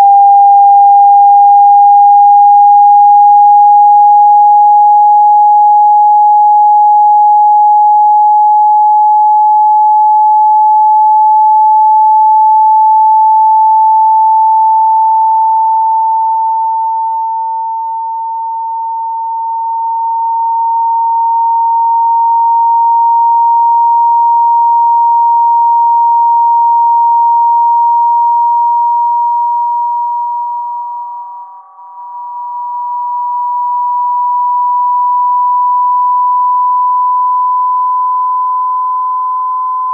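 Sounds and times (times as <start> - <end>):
rising sine tone: 0.0 - 39.9.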